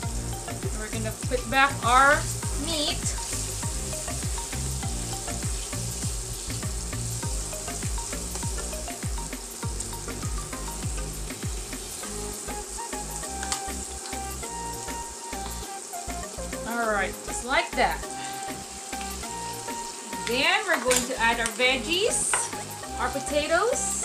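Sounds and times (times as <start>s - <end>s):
onions sizzling in oil: 0.0s - 24.0s.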